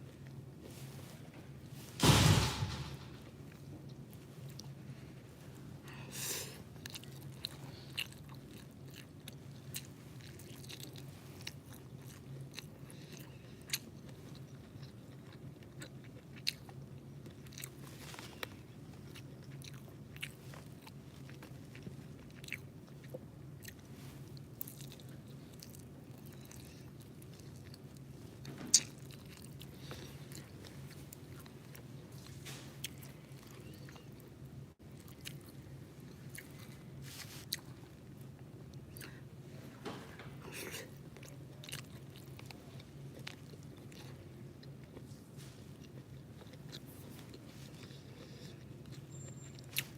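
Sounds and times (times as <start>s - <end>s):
person chewing food: 6.8s - 34.3s, 34.9s - 39.2s, 40.6s - 49.9s.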